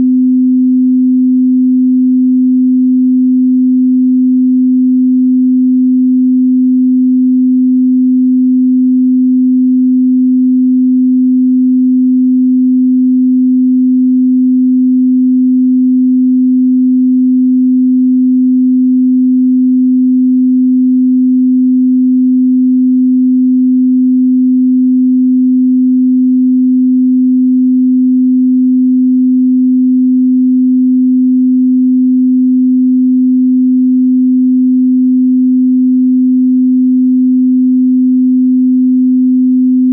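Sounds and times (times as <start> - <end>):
sine test tone: 0.0 - 39.9.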